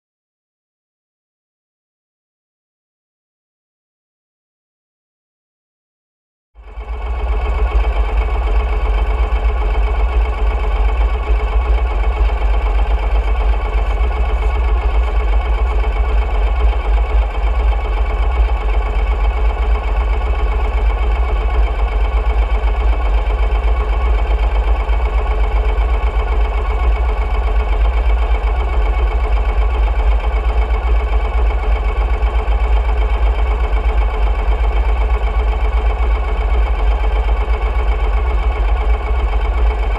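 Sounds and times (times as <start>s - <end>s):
motorcycle engine rumbling: 6.6s - 39.9s.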